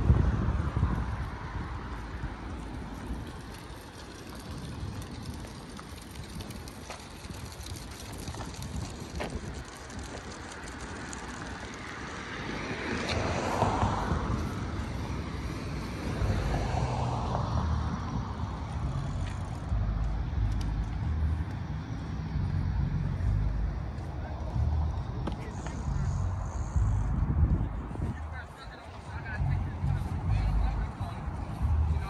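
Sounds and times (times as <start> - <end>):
cars driving past: 0.0 - 32.0
low traffic rumble: 0.0 - 32.0.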